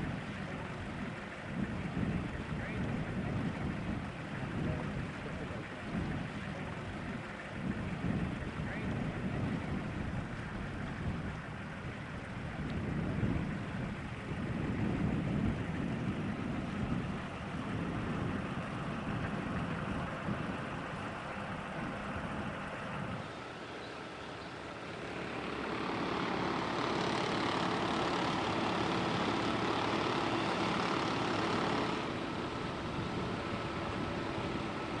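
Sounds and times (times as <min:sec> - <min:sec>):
wind on microphone: 0:00.0 - 0:23.5, 0:24.8 - 0:35.0
fast-flowing river: 0:00.0 - 0:35.0
steady engine drone: 0:00.0 - 0:35.0.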